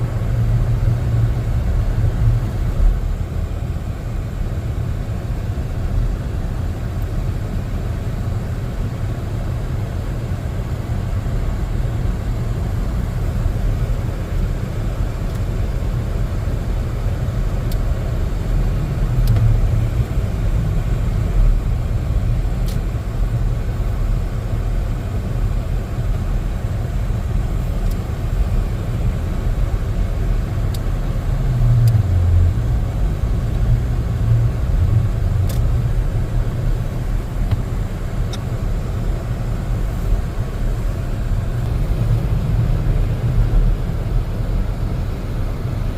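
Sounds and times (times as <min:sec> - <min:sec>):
road and engine rumble: 0:00.0 - 0:45.9.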